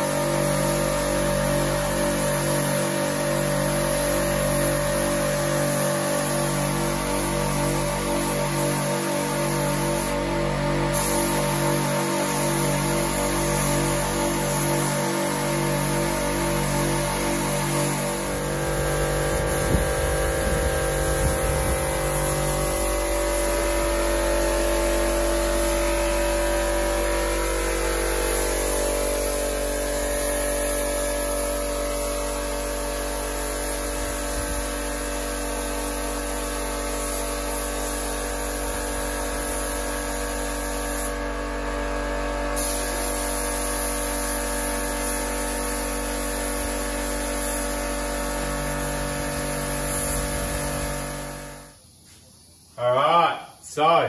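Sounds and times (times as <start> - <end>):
air supply motor hum: 0.0 - 51.9
spray gun hissing: 0.0 - 53.8.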